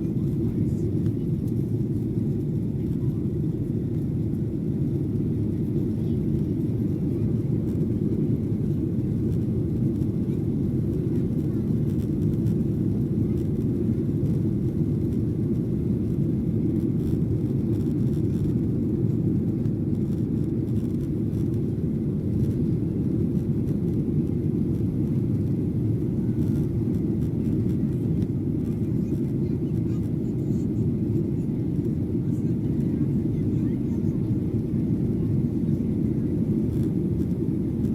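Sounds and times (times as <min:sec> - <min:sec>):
airplane cabin rumble: 0:00.0 - 0:37.9.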